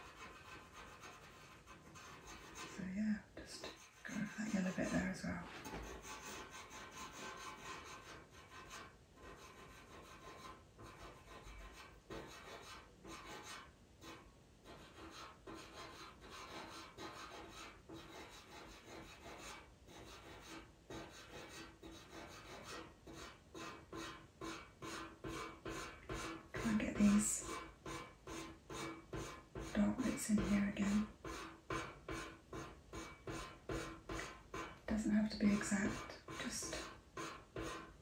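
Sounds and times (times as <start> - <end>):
pencil scratching on paper: 0.0 - 38.0.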